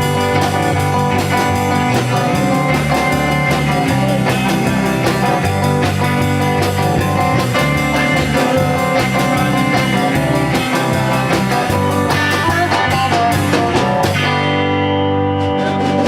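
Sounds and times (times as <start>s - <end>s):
bass guitar: 0.0s - 16.0s
drum kit beat: 0.0s - 16.0s
guitars: 0.0s - 16.0s.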